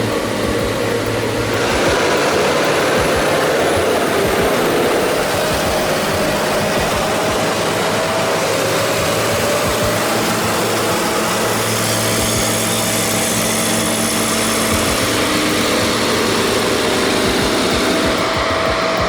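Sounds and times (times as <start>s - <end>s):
engine running with whine: 0.0s - 19.0s.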